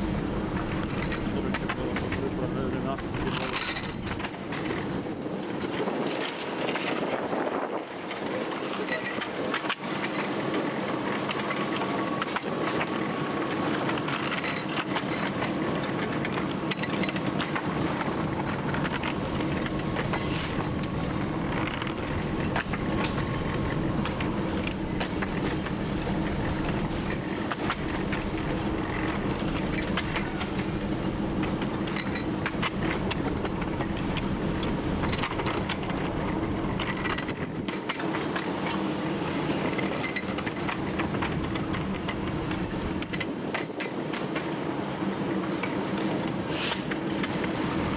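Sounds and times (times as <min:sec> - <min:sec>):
diesel locomotive engine drone: 0:00.0 - 0:47.9
wheels clicking over rail joints: 0:00.0 - 0:47.9.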